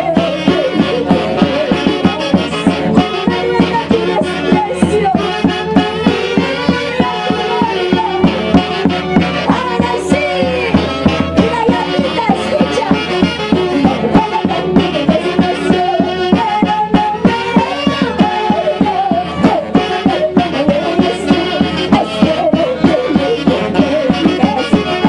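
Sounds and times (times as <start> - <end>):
band music with steady beat: 0.0 - 25.0.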